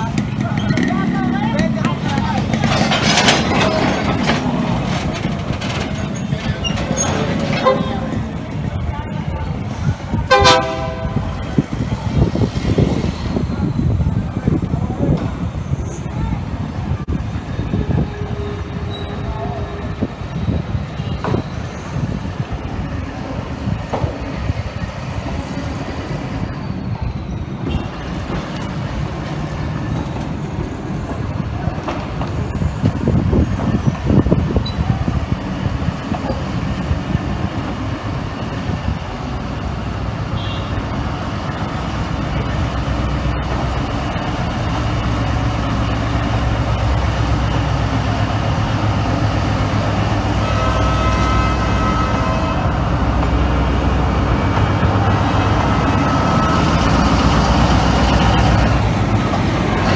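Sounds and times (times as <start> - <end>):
diesel locomotive engine hum: 0.0 - 59.9
train wheels rumbling on rails: 0.0 - 59.9.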